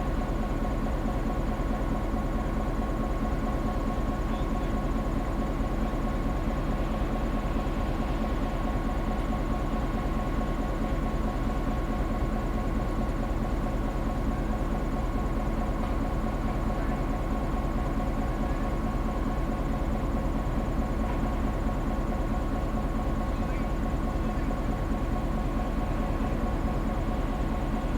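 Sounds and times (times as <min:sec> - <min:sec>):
diesel locomotive engine running: 0:00.0 - 0:27.9.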